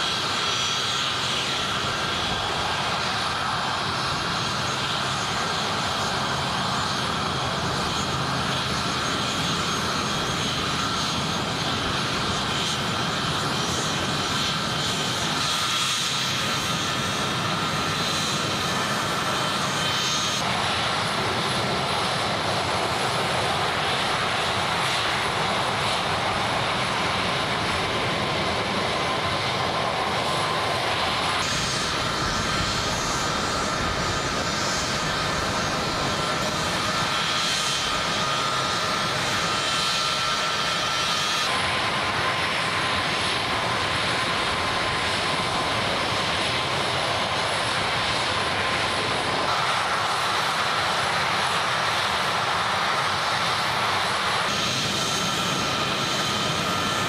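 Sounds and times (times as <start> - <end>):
jet engines taxiing: 0.0 - 57.0.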